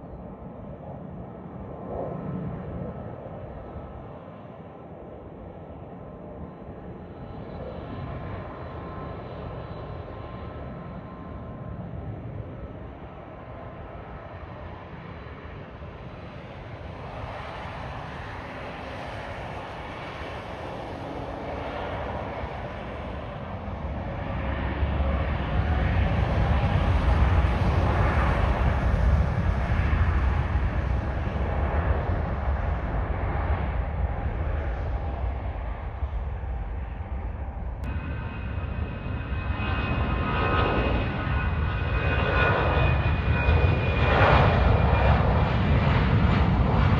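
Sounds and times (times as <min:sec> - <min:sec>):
jet engines passing: 0:00.0 - 0:46.9.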